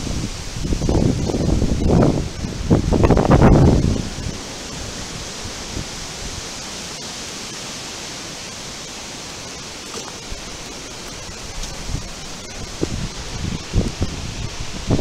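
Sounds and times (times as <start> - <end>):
wind buffeting microphone: 0.0 - 6.6, 9.5 - 15.0
wind hissing through trees: 0.0 - 15.0.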